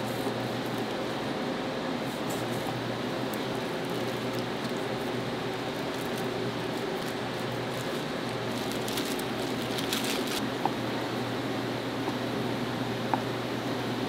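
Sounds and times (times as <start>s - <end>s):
ventilation hum: 0.0s - 14.0s.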